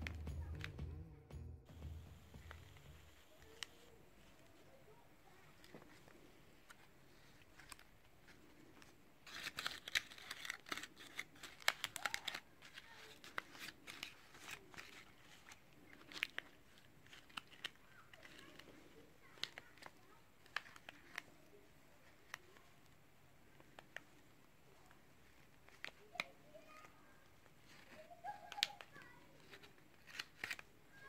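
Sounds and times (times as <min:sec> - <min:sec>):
paper crinkling and rustling: 0:02.4 - 0:31.0.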